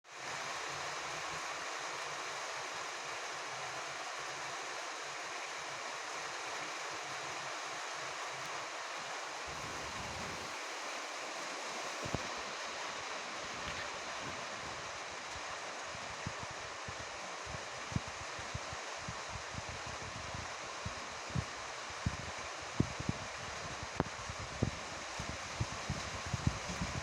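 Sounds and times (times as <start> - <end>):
rain on a roof: 0.0 - 27.0.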